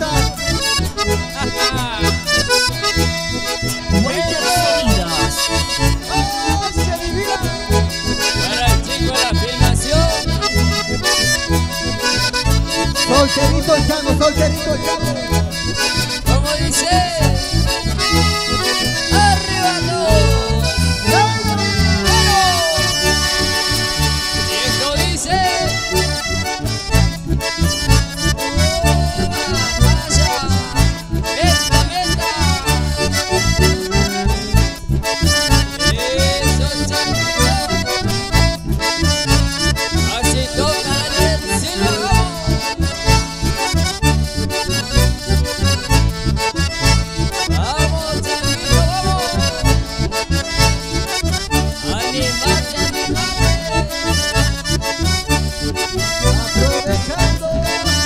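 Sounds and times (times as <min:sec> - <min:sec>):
acoustic guitar strumming: 0:00.0 - 0:58.0
bandoneon and accordion melody: 0:00.0 - 0:58.0.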